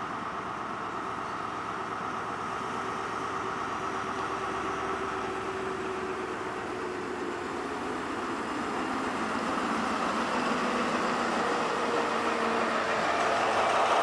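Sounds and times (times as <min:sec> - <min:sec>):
diesel engine drone: 0:00.0 - 0:14.0
train coaches running noise: 0:00.0 - 0:14.0.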